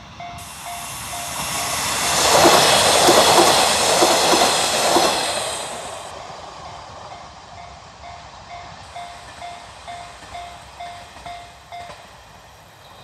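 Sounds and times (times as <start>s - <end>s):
train noise: 0.0s - 13.0s.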